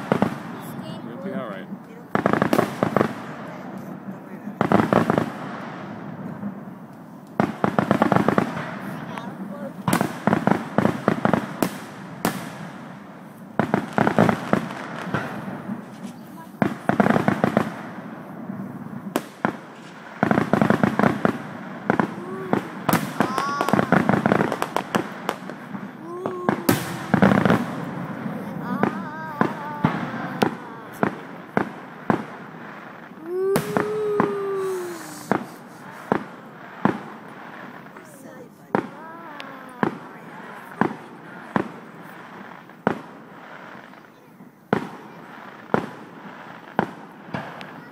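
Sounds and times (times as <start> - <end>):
firework bangs: 0.0 - 47.9
rapid firework pops: 0.0 - 47.9.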